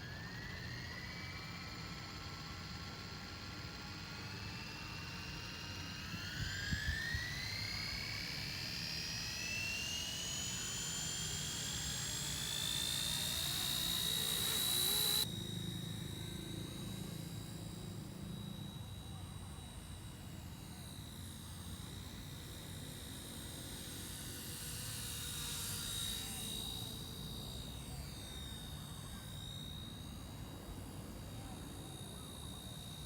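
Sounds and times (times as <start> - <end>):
rc helicopter motor whine: 0.0 - 33.0.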